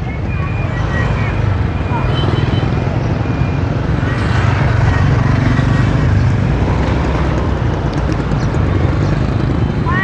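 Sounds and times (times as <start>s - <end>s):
motor vehicles rumbling: 0.0s - 10.0s
motorbikes running: 0.0s - 10.0s.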